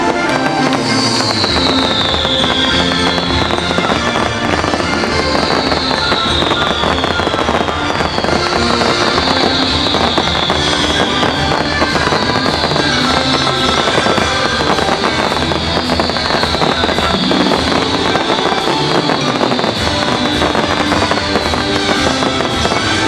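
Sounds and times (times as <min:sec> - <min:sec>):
fireworks bursting and crackling: 0:00.0 - 0:23.0
orchestral music: 0:00.0 - 0:23.0.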